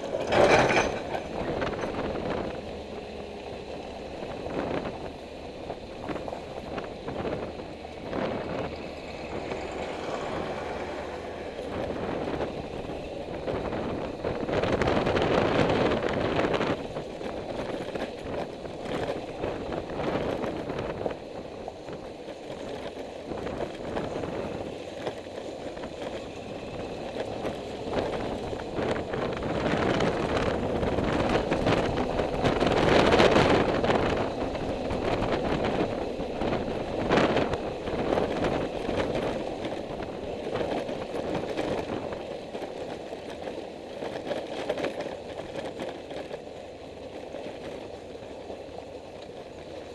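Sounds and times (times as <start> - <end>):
road and wind noise: 0.0 - 49.9.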